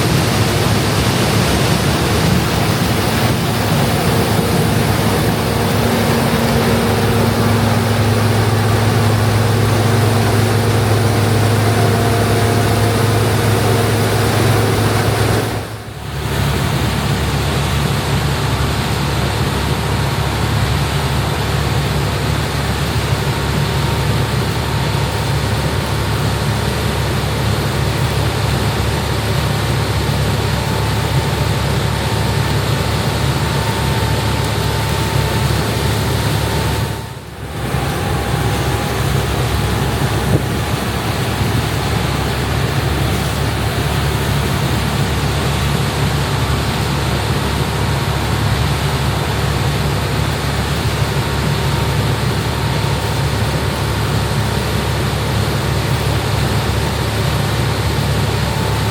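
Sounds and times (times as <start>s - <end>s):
combine harvester droning: 0.0s - 58.9s.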